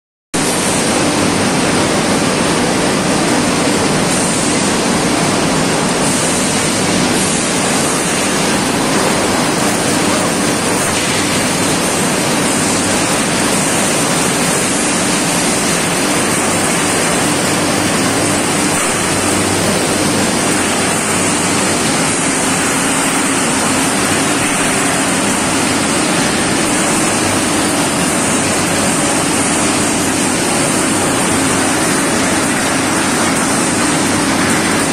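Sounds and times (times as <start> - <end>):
loud rushing machinery noise: 0.4 - 34.9.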